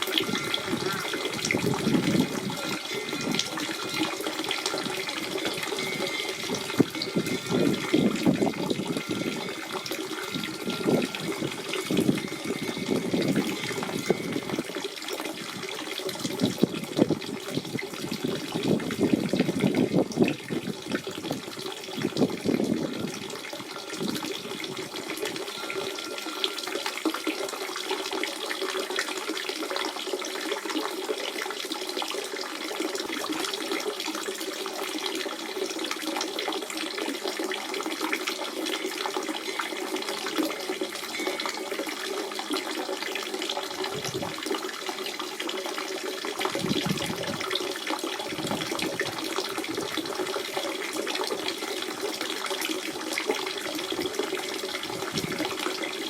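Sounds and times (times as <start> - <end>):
deep water gurgles: 0.0 - 30.2, 36.2 - 56.0
spring water running and splashing: 0.0 - 56.0.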